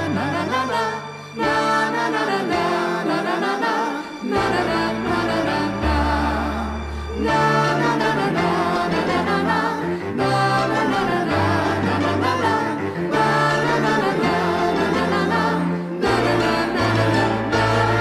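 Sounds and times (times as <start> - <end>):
choir-like singing: 0.0 - 18.0.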